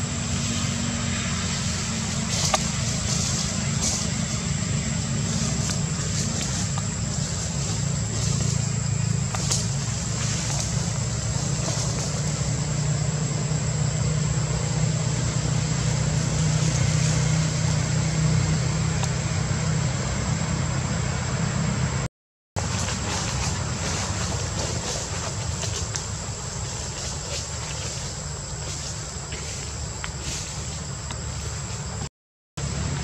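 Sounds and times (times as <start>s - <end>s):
high-pitched whine: 0.0s - 33.0s.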